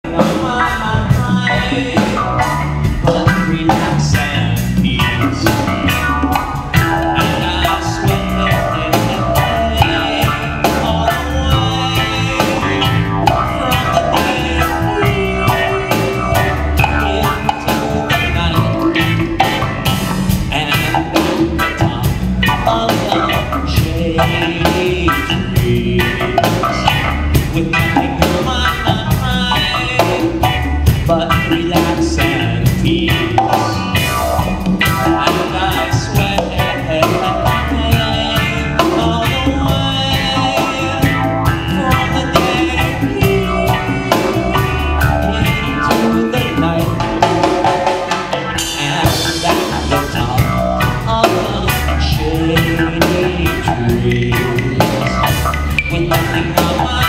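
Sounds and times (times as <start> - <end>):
drum kit: 0.0 - 57.0
electric bass: 0.0 - 57.0
electric guitar: 0.0 - 57.0
keyboard: 0.0 - 57.0
man singing lead: 0.0 - 57.0.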